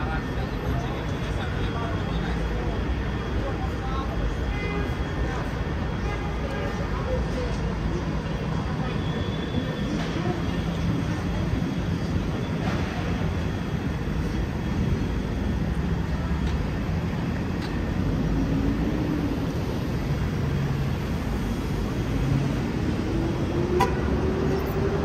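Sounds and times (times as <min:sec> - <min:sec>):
city street traffic rumble: 0:00.0 - 0:25.0.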